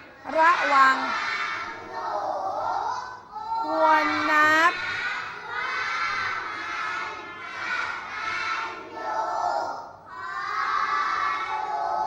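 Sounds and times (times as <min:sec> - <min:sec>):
children chanting in unison: 0:00.0 - 0:12.0.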